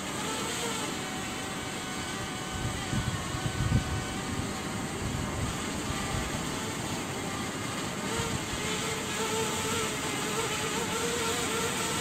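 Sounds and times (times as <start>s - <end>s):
drone propellers buzzing whine: 0.0s - 12.0s.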